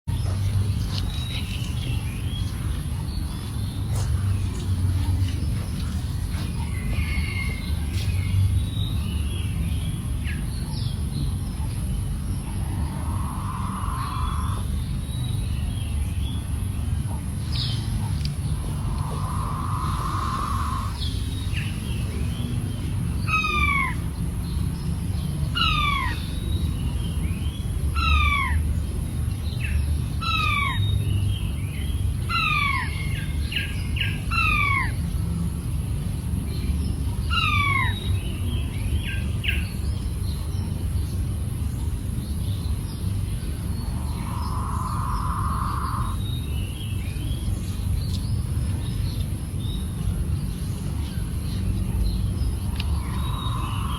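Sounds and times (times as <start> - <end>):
low background rumble: 0.1 - 53.9.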